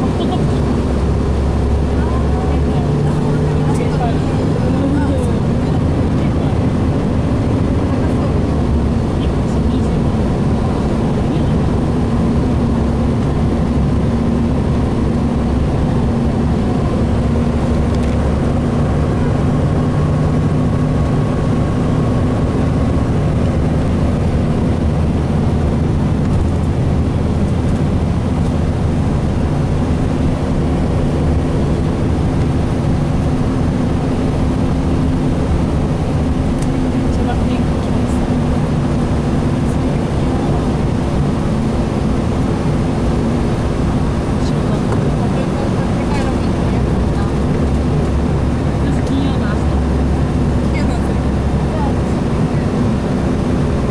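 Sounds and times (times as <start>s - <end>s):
bus diesel engine drone: 0.0s - 53.9s
road noise: 0.0s - 53.9s.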